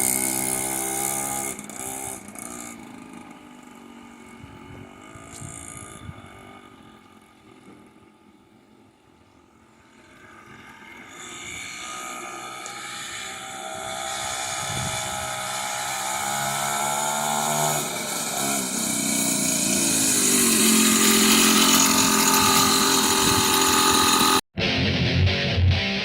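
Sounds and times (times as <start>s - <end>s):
dirt bike engine revving: 0.0s - 24.4s.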